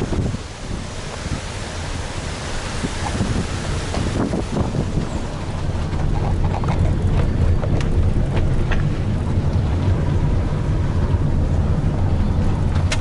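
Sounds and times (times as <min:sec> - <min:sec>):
engine and tyre rumble: 0:00.0 - 0:13.0
wind noise: 0:00.0 - 0:13.0.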